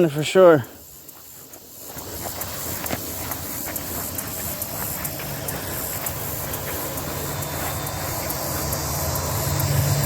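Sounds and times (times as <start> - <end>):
faint ticking: 0.0 - 10.0
vehicle engine running: 0.9 - 10.0.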